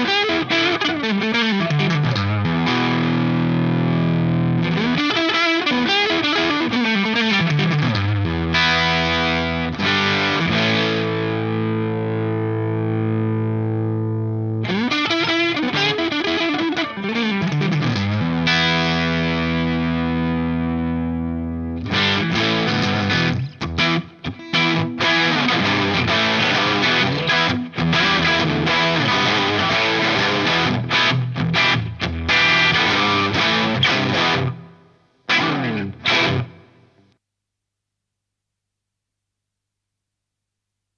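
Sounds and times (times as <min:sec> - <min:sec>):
overdriven electric guitar chords: 0:00.0 - 0:37.1.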